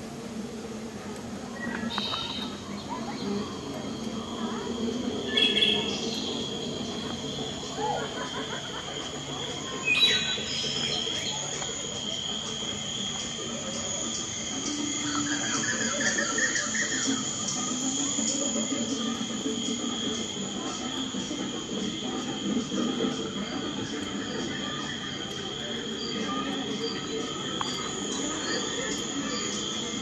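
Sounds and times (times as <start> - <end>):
faint distant voices murmuring: 0.0 - 30.0
insects droning: 0.0 - 30.0.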